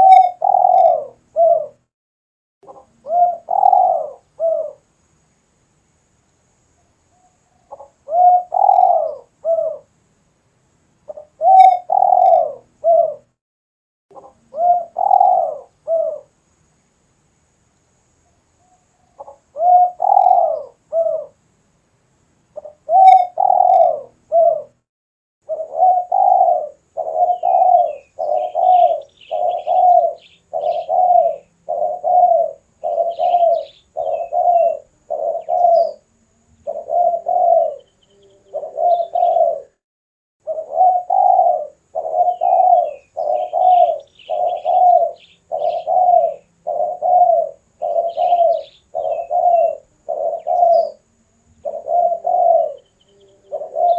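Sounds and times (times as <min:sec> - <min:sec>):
dove cooing: 0:00.0 - 0:01.9, 0:02.6 - 0:04.8, 0:07.2 - 0:09.9, 0:11.1 - 0:13.4, 0:14.1 - 0:16.3, 0:18.6 - 0:21.4, 0:22.6 - 0:24.8, 0:25.4 - 0:39.8, 0:40.4 - 0:53.9.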